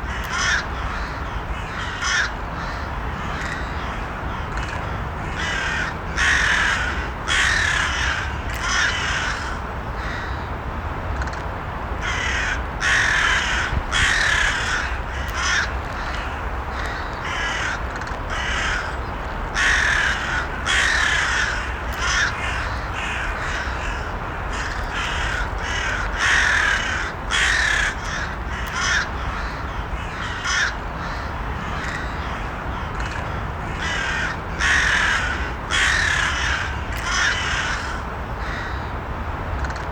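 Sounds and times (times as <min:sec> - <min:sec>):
crows cawing: 0:00.0 - 0:10.4, 0:12.0 - 0:38.9
low background noise: 0:00.0 - 0:39.9.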